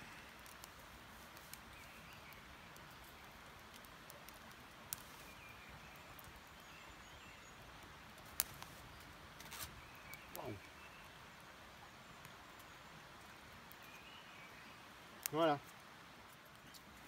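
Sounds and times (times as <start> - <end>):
stove fire crackling: 0.0 - 17.0.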